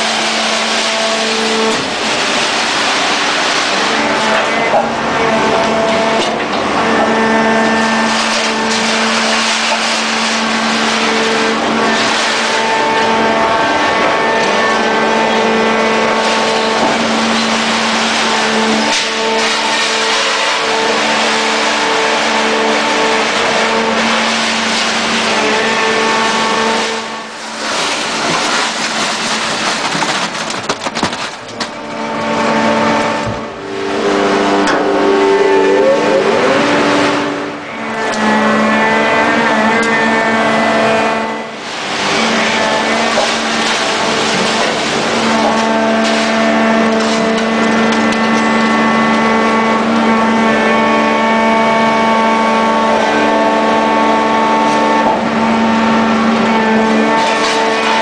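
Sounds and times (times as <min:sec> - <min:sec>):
hydraulic machine whine: 0:00.0 - 0:58.0.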